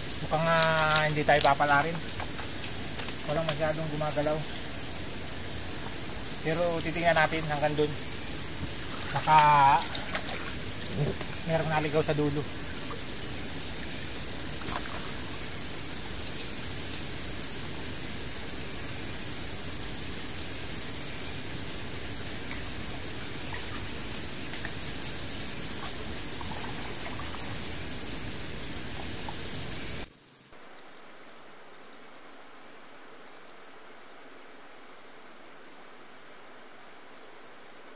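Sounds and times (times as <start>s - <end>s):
high-pitched hiss: 0.0s - 37.9s
rushing water: 0.0s - 37.9s.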